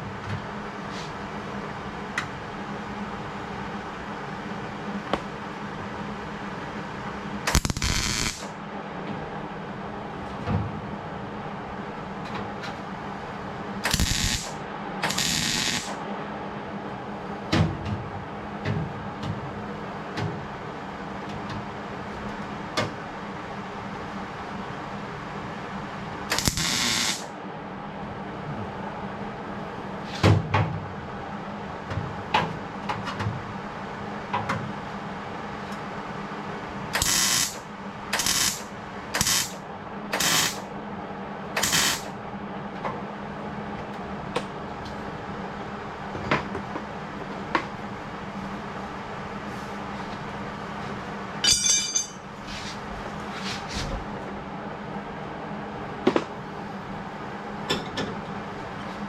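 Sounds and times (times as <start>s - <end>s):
steady workshop hum: 0.0s - 59.0s.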